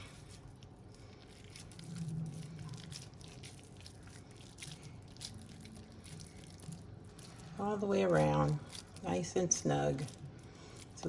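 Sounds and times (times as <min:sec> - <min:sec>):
wet squishing of ground meat: 0:00.0 - 0:11.0.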